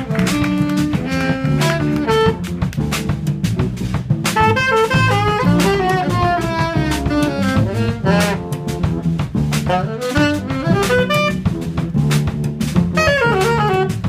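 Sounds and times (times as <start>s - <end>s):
saxophone solo: 0.0s - 2.8s, 4.3s - 11.9s, 12.9s - 14.0s
bass line: 0.0s - 14.0s
drum kit cymbals: 0.0s - 14.0s.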